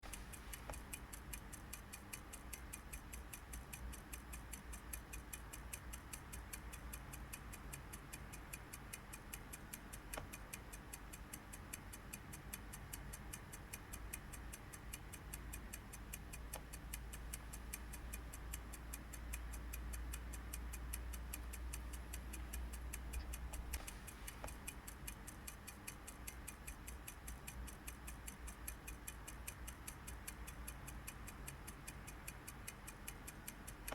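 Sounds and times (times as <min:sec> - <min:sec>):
faint low hum: 0:00.0 - 0:33.9
steady ticking: 0:00.0 - 0:33.9.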